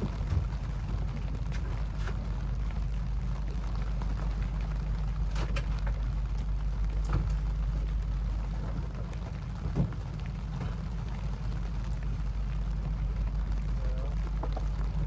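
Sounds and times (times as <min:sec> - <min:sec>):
rain low rumble: 0:00.0 - 0:15.0
raindrops tapping: 0:00.0 - 0:15.0.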